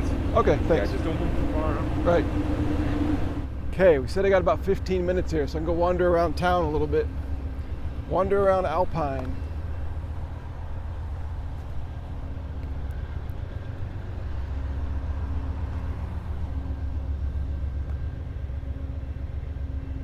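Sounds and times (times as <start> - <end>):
faint engine hum: 0.0 - 20.0
low rumble of vehicle engines: 0.0 - 20.0.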